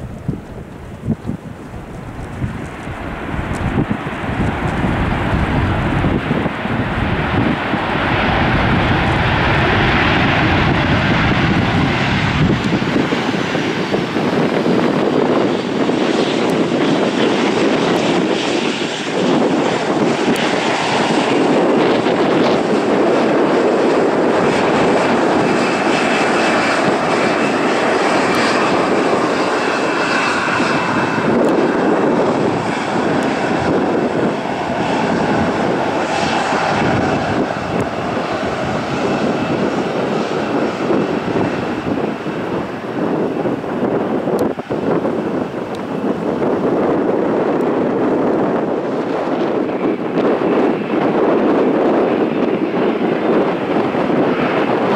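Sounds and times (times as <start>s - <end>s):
jet engines roaring: 0.0s - 54.9s.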